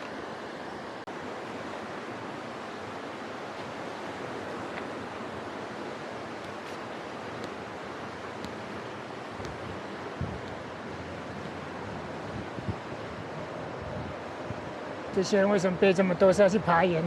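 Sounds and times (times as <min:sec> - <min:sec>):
fast-running water rushing: 0:00.0 - 0:17.0.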